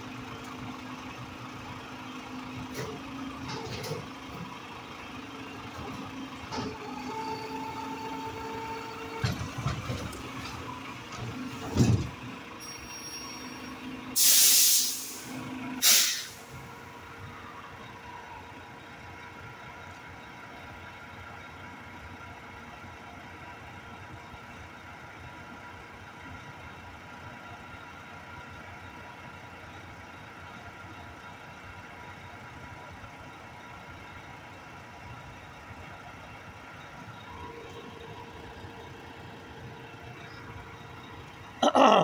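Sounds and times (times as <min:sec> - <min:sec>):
garbage truck engine idling: 0:00.0 - 0:41.7.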